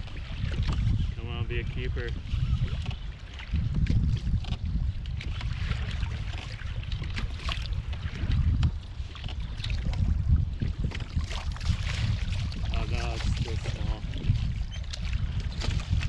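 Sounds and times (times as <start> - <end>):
waves splashing against kayak hull: 0.0 - 16.0
wind buffeting microphone: 0.0 - 16.0.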